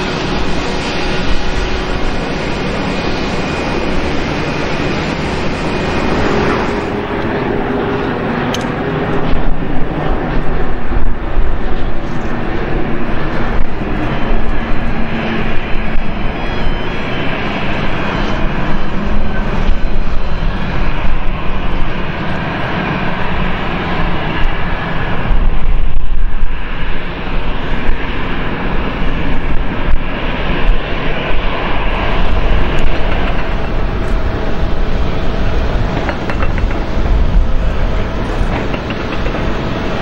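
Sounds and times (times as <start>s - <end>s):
jet engine rush with whine: 0.0s - 40.0s
turboprop plane on approach: 0.0s - 40.0s.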